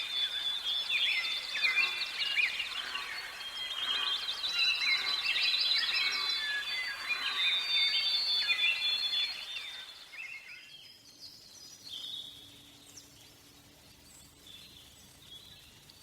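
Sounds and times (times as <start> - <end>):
birds singing in chorus: 0.0 - 16.0.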